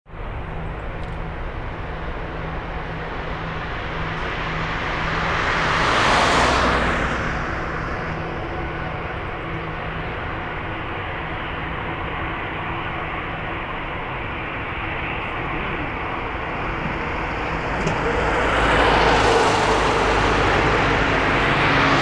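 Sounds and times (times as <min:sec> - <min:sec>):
jet engines at takeoff power: 0:00.1 - 0:22.0.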